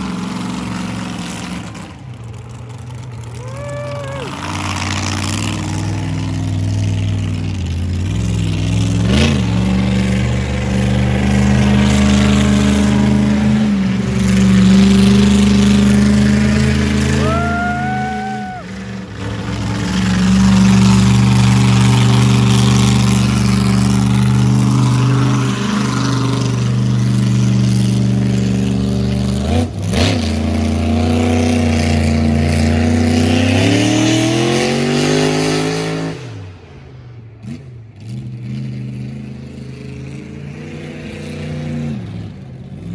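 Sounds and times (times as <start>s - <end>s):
monster truck engine revving: 0.0s - 36.6s.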